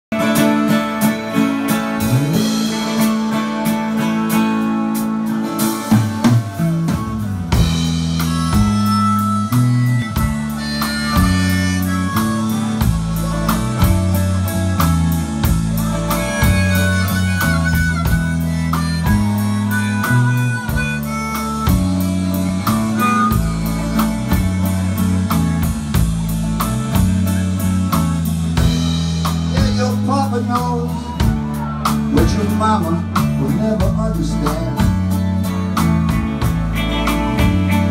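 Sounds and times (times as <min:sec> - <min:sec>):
bass guitar: 0:00.0 - 0:37.9
drums: 0:00.1 - 0:37.9
electric guitar: 0:00.1 - 0:37.9
harmonica: 0:00.1 - 0:37.9.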